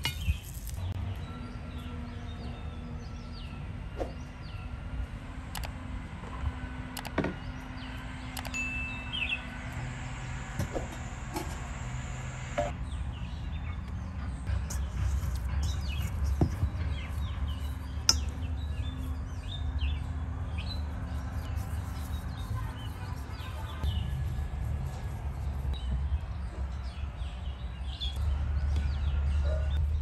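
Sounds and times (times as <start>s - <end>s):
birds chirping: 0.0s - 29.8s.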